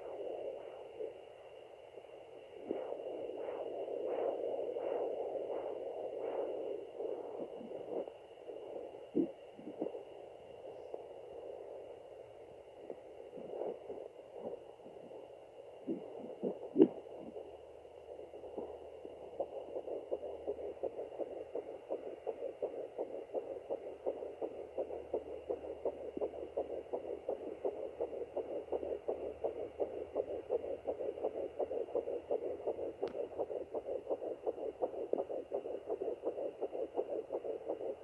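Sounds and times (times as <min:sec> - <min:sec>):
fetal heartbeat on doppler: 0:00.0 - 0:38.0.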